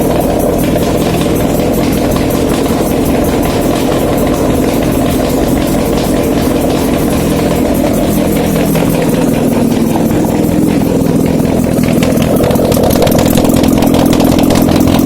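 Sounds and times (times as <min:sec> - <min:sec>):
petrol engine idling: 0:00.0 - 0:15.0.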